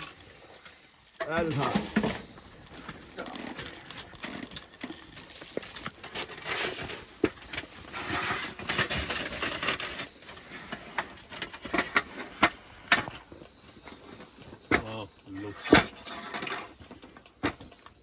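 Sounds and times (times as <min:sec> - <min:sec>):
scraping or rustling: 0:00.0 - 0:17.9.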